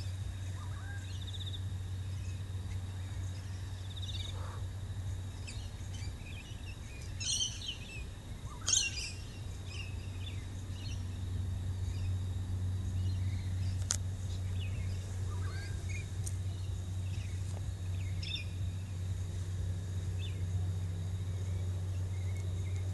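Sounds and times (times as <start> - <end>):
birds chirping faintly: 0.0 - 22.9
steady low hum: 0.0 - 22.9.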